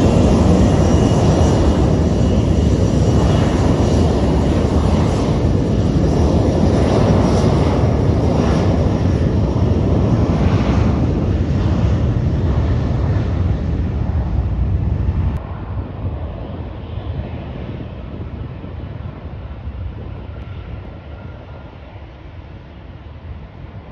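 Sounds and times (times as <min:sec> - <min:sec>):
jet engines roaring: 0:00.0 - 0:23.9.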